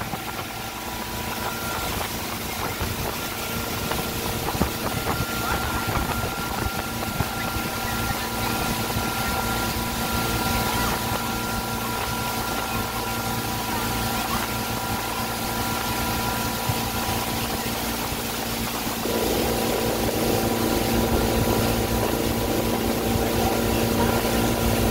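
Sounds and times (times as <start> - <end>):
boat engine humming: 0.0 - 24.9
churning wake hissing: 0.0 - 24.9
wind: 0.0 - 24.9.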